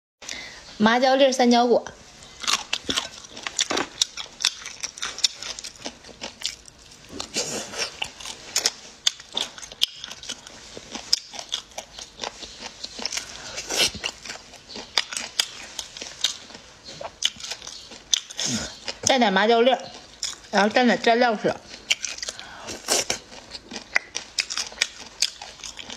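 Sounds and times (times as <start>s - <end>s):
chewing and mouth smacking: 2.3s - 19.2s, 19.8s - 20.5s, 21.6s - 25.9s.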